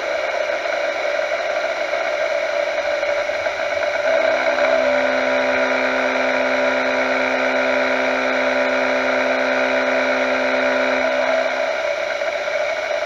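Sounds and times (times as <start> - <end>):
milling machine cutting whine: 0.0 - 13.0.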